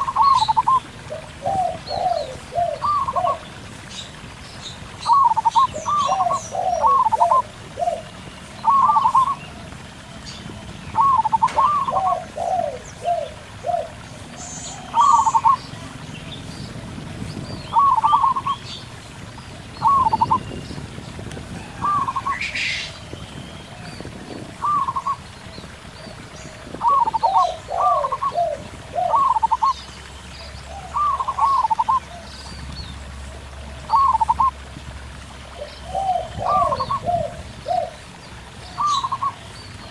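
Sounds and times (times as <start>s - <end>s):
lower dove coos: 0.0s - 4.4s, 5.0s - 16.1s, 16.8s - 18.8s, 19.5s - 29.8s, 30.4s - 32.7s, 33.6s - 34.7s, 35.5s - 39.9s
doves cooing in high phrases: 0.0s - 39.9s
murmur of rocky stream: 0.0s - 39.9s.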